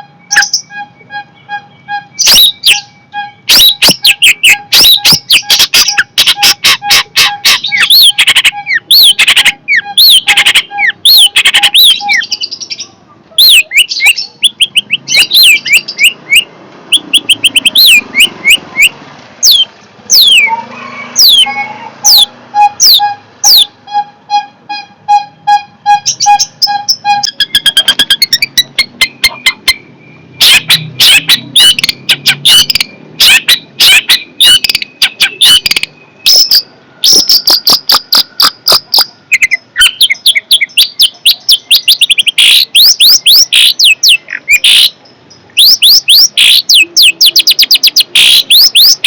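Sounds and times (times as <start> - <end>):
shrike calling: 0.0 - 49.0.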